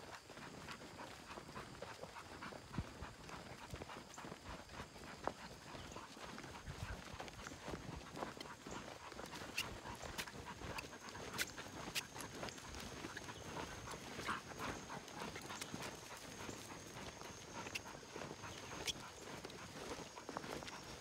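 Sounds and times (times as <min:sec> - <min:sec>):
dogs panting: 0:00.0 - 0:21.0
footsteps on dirt trail: 0:00.0 - 0:21.0.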